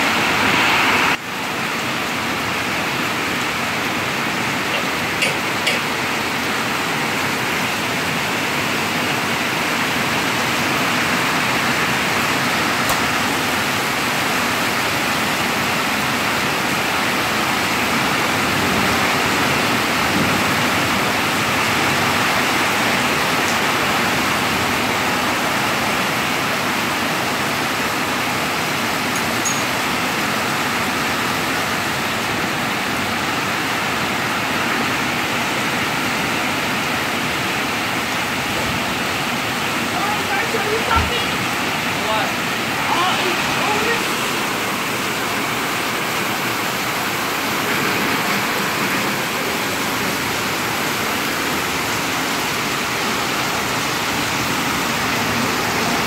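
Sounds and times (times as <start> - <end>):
heavy rain on a tin roof: 0.0 - 56.0.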